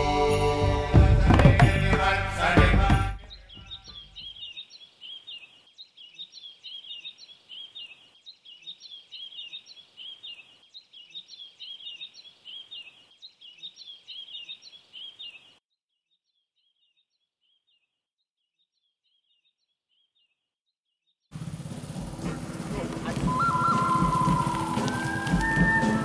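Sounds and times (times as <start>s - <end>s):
small birds chirping: 2.4s - 26.0s.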